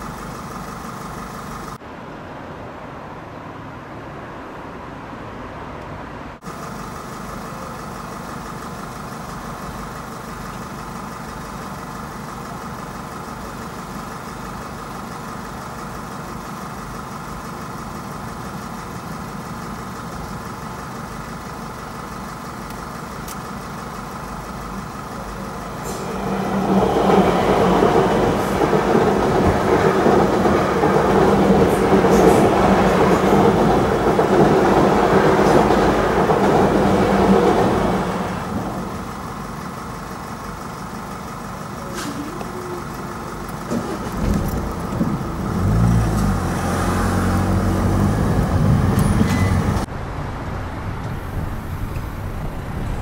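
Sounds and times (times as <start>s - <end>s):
train wheels on rails: 0.0s - 1.8s, 6.4s - 53.0s
waiting traffic: 0.0s - 53.0s.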